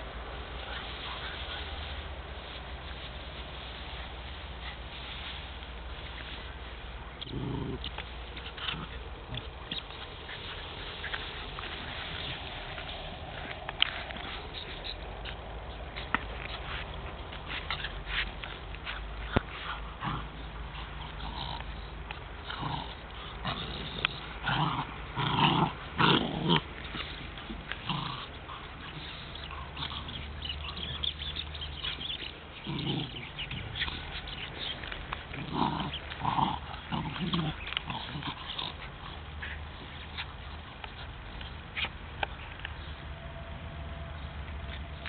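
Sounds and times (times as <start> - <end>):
dogs vocalising while play-fighting: 0.0 - 43.0.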